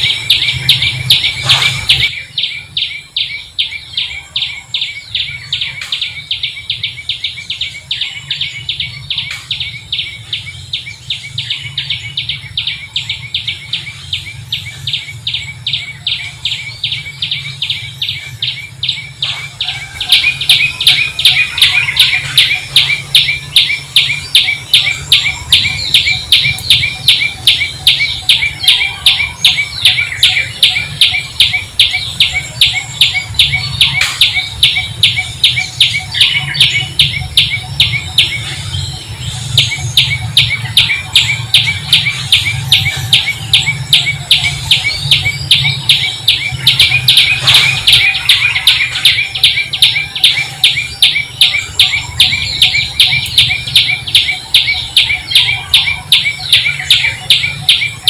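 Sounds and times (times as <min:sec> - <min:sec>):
birds chirping rhythmically: 0:00.0 - 0:58.0.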